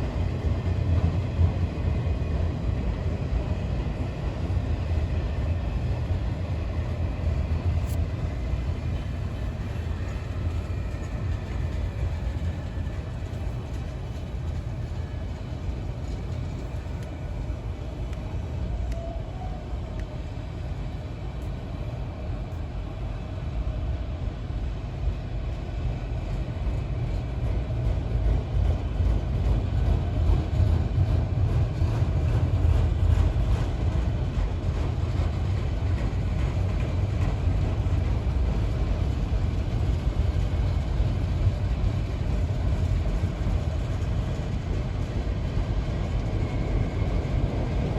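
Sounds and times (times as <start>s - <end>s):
train rumbling past: 0.0s - 47.9s.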